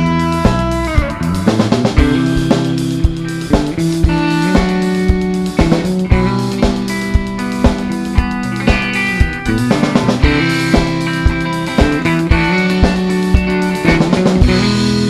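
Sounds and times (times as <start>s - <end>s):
drum kit steady beat: 0.0s - 15.0s
rock guitars sustained chords: 0.0s - 15.0s.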